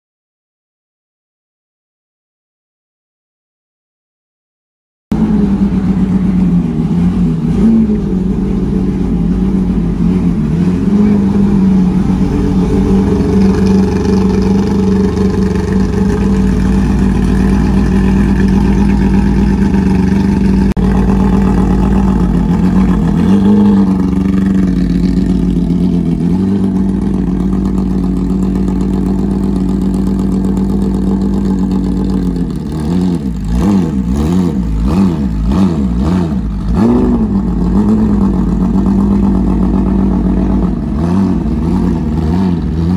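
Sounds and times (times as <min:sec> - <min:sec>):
car engine idling: 0:05.1 - 0:42.9
engine throttle blips: 0:05.1 - 0:42.9.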